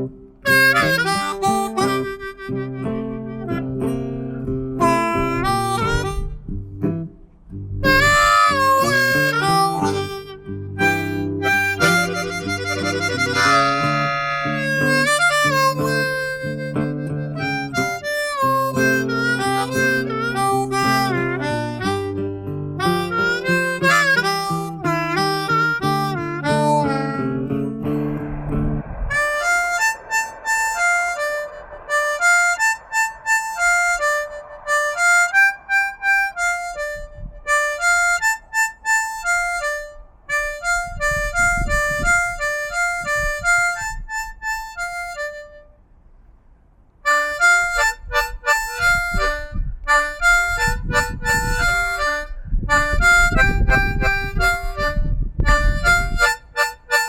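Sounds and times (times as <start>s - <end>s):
harmonica melody: 0.0s - 7.1s, 7.8s - 28.5s, 29.1s - 45.8s, 47.0s - 57.0s.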